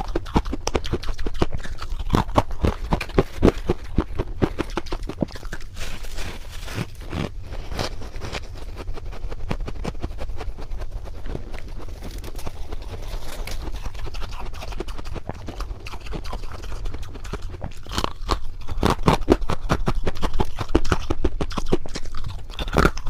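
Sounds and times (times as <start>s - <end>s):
frost being chewed: 0.0s - 23.0s.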